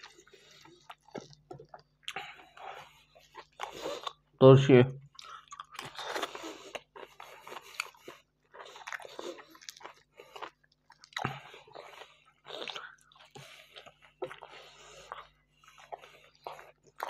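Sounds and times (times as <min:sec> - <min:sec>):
chewing and biting food: 0:00.0 - 0:04.4, 0:05.1 - 0:17.0.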